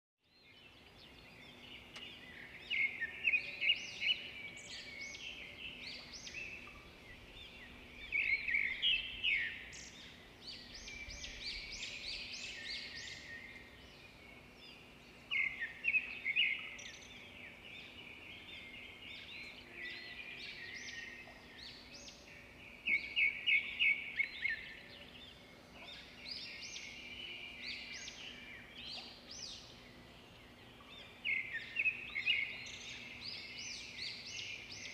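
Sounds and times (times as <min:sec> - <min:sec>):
birds chirping and singing: 0:00.4 - 0:34.9.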